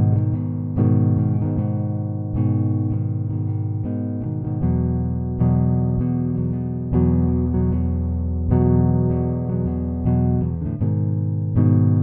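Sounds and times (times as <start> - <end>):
deep steady bass: 0.0 - 12.0
plucked string notes: 0.0 - 12.0.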